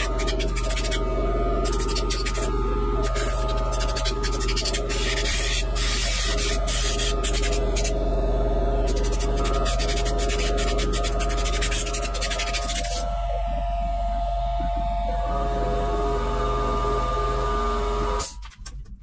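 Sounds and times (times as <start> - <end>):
steady low drone: 0.0 - 18.2.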